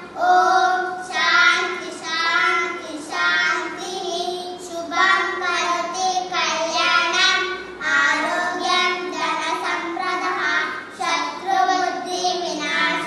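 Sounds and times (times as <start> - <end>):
children chanting verse: 0.0 - 13.0.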